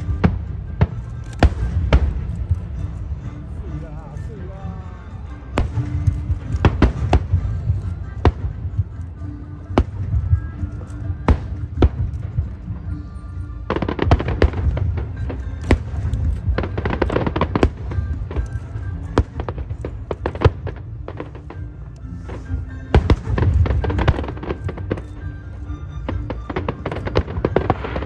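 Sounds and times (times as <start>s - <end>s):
fireworks bangs and crackling: 0.0s - 3.2s, 5.2s - 28.0s.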